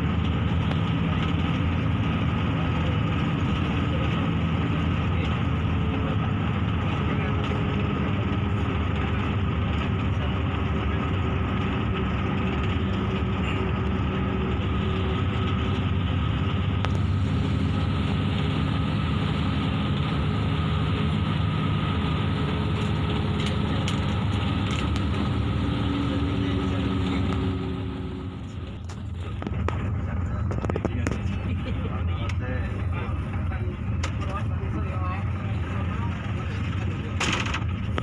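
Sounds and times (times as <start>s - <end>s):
bus engine droning: 0.0s - 38.0s
road noise: 0.0s - 38.0s.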